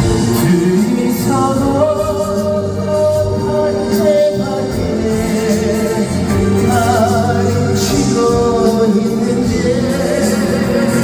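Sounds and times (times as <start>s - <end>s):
band accompaniment: 0.0s - 11.0s
man singing: 0.0s - 11.0s.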